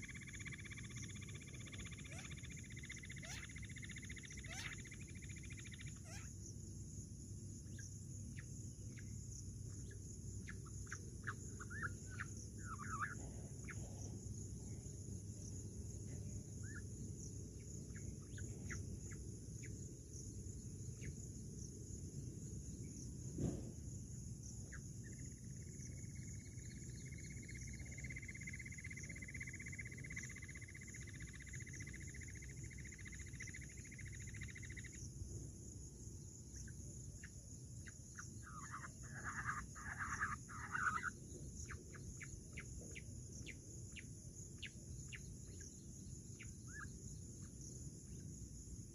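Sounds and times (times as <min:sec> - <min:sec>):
insect drone: 0:00.0 - 0:48.9
insect trill: 0:00.0 - 0:48.9.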